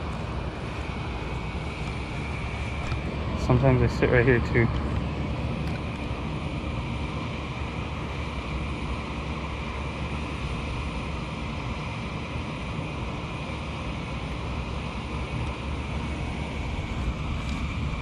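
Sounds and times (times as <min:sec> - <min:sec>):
air conditioner units humming: 0:00.0 - 0:18.0
faint high whine: 0:00.0 - 0:18.0.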